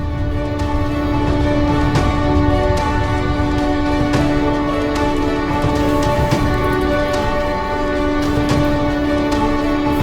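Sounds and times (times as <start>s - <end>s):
background music with regular beat: 0.0s - 10.0s.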